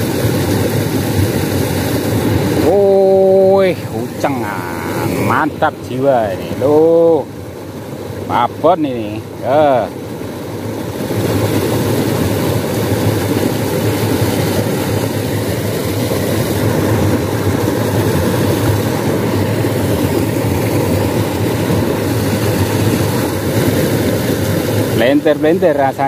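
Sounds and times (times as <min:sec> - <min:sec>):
water rushing through ditch: 0:00.0 - 0:26.0.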